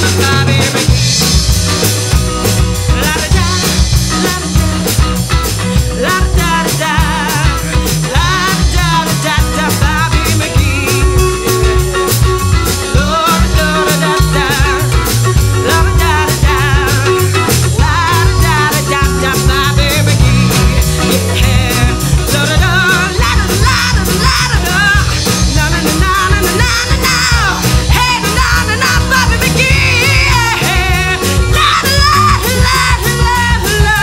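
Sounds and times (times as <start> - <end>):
live folk-rock band playing: 0.0 - 34.0.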